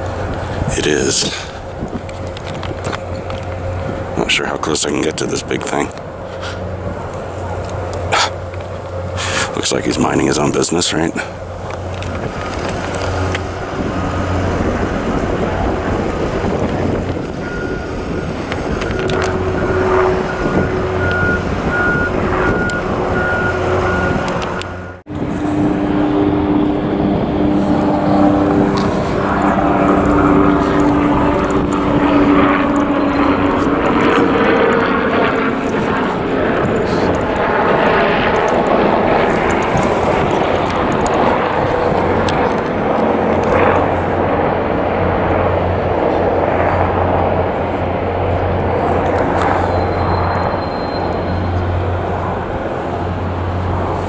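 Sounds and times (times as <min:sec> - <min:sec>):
outdoor background noise: 0:00.0 - 0:54.0
steady engine drone: 0:00.0 - 0:54.0.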